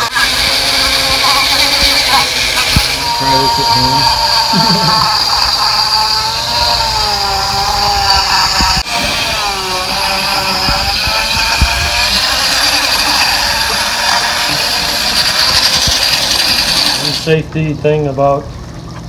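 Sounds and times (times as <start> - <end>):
rotary tool motor whine: 0.0 - 17.3.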